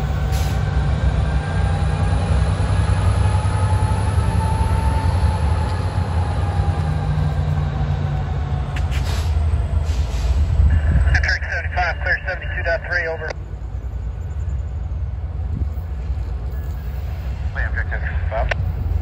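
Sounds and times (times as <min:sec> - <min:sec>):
diesel train rumble: 0:00.0 - 0:19.0
rail noise: 0:00.0 - 0:19.0.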